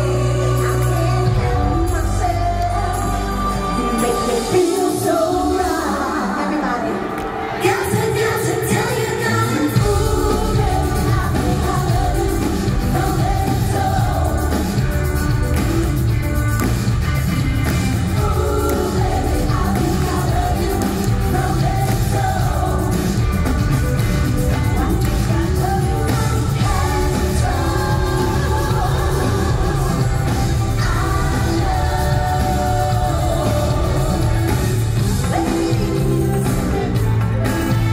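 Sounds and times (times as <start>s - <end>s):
backing vocalists: 0.0s - 37.9s
pop band playing: 0.0s - 37.9s
woman singing lead: 0.0s - 37.9s.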